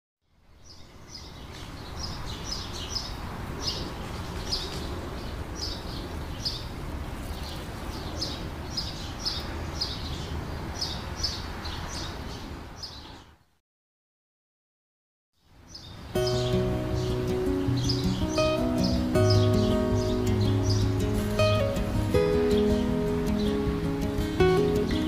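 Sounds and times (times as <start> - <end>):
birds chirping: 0.3 - 13.4, 15.6 - 25.0.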